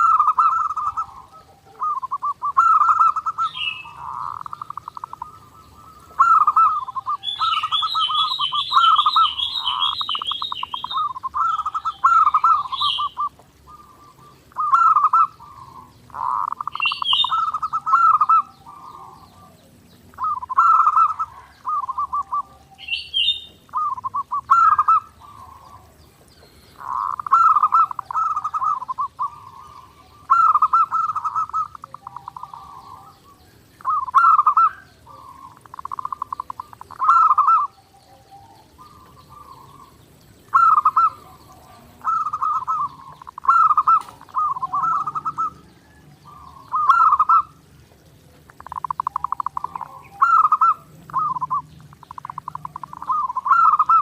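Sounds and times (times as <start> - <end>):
bird chirp: 0.0 - 54.0
dove cooing trills: 0.0 - 54.0.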